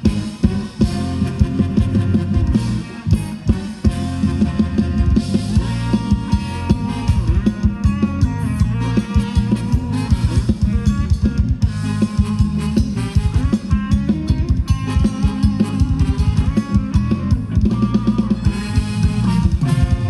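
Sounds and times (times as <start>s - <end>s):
drum kit beat: 0.0s - 20.0s
live band dance music: 0.0s - 20.0s.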